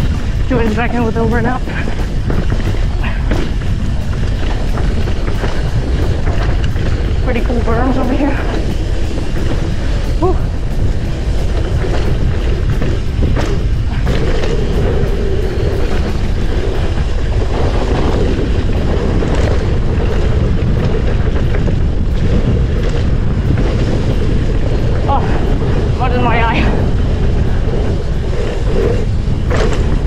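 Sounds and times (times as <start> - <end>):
tyres rolling rumble: 0.0 - 30.0
wind buffeting microphone: 0.0 - 30.0.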